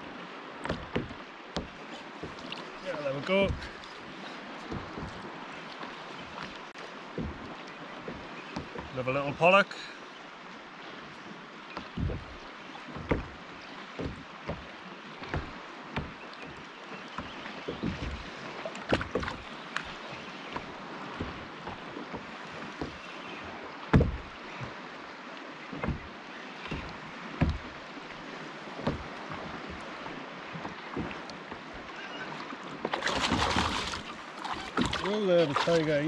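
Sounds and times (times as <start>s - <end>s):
small waves lapping: 0.0s - 36.0s
hollow knocks on kayak hull: 0.6s - 9.1s, 11.7s - 24.9s, 25.6s - 35.9s.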